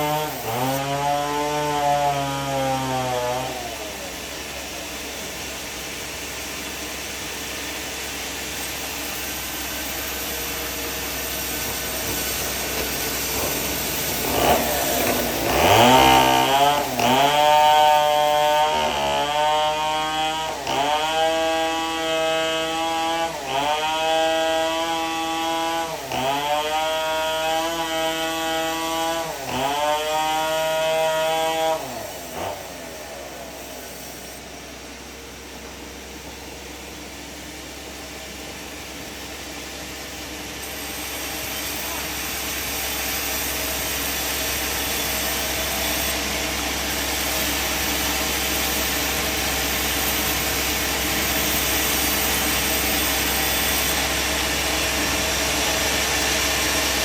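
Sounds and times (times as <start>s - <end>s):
band saw running: 0.0s - 57.0s
saw blade whine cutting timber: 0.0s - 57.0s.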